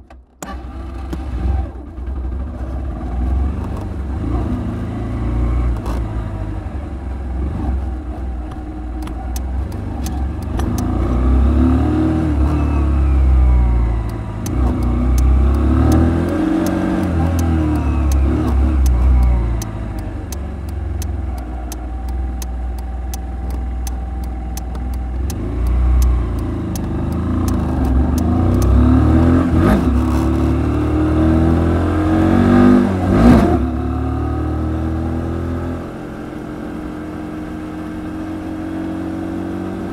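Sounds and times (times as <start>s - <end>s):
scooter engine accelerating: 0.4s - 39.9s.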